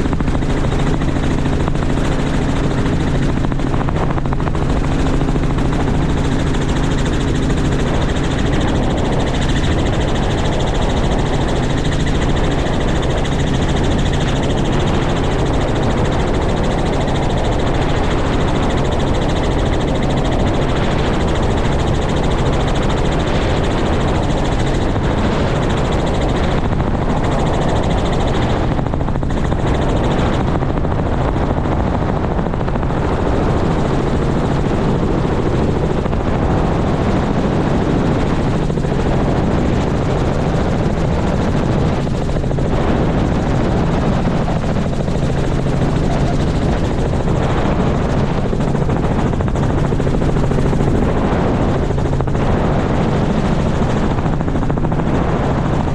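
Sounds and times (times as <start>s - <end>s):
helicopter rotor and engine drone: 0.0s - 55.9s.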